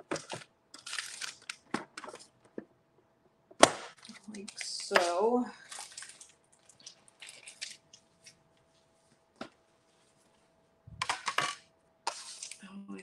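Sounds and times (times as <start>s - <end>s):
paper and plastic rustling: 0.0s - 2.5s, 4.0s - 12.6s.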